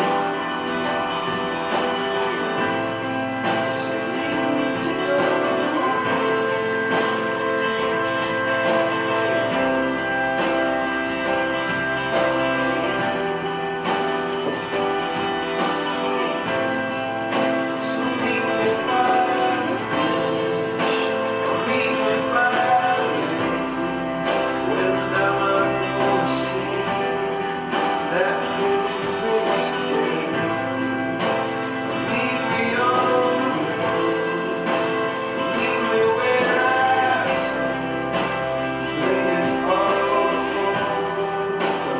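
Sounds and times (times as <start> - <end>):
song with acoustic guitar: 0.0 - 41.9.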